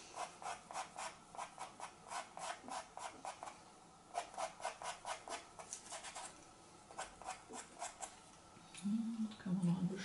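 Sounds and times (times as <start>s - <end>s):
pencil scratching on paper: 0.0s - 8.2s.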